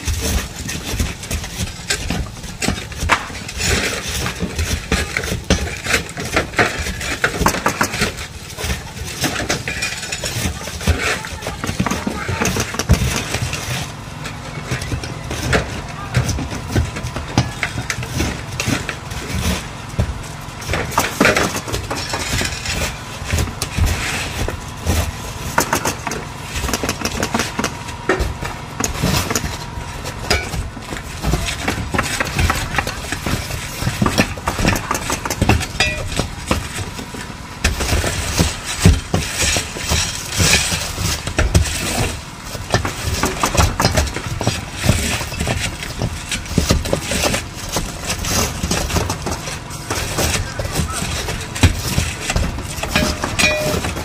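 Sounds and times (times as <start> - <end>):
engine hum: 0.0 - 54.0.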